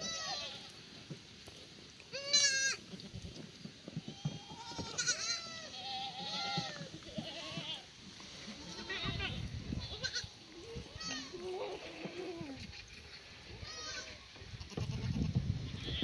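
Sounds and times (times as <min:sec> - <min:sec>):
goat kids bleating: 0:00.0 - 0:00.8, 0:02.1 - 0:03.2, 0:04.0 - 0:16.0.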